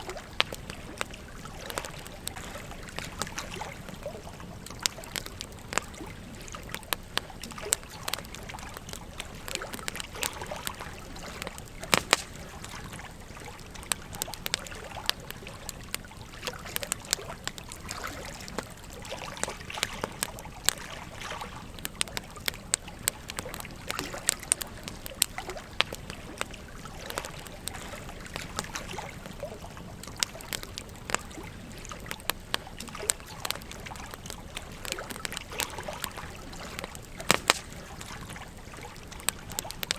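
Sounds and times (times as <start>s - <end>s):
campfire crackling and popping: 0.0s - 39.9s
gentle stream trickling: 0.0s - 39.9s.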